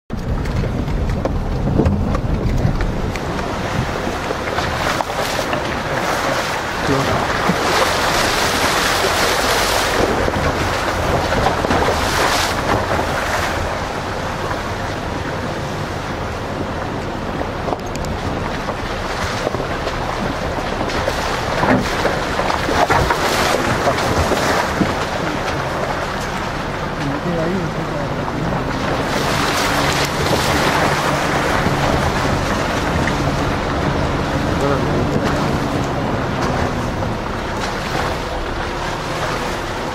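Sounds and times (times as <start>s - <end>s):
vehicle engine and tyre rumble: 0.0s - 39.9s
wind noise on microphone: 0.1s - 27.0s, 28.2s - 39.9s.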